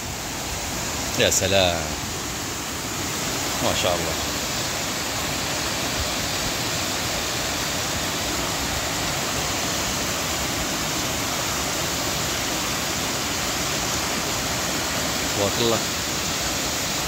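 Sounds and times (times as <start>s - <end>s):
waterfalls pouring into pool: 0.0s - 17.0s.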